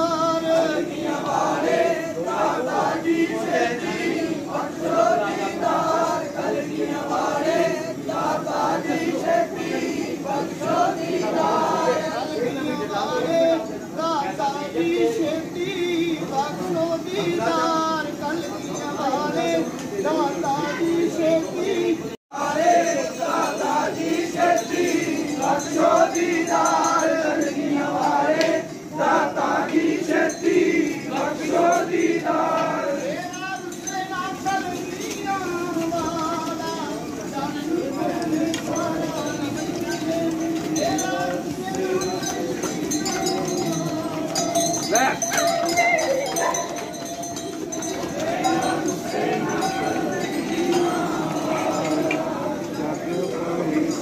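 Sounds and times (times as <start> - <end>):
crowd singing a devotional chant: 0.0 - 54.0.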